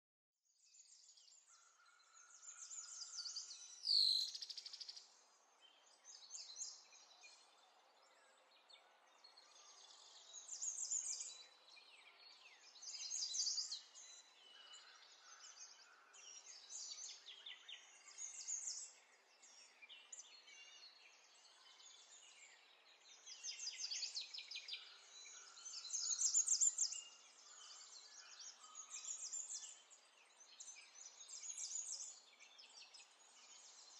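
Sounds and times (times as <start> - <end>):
songbirds chirping: 0.4 - 33.9.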